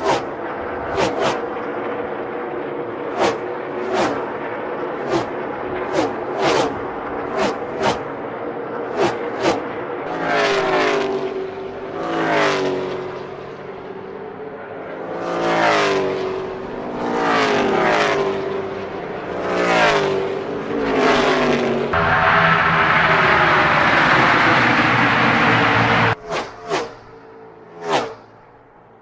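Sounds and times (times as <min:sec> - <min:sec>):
race cars passing at speed: 0:00.0 - 0:29.0
steady engine roar: 0:00.0 - 0:29.0.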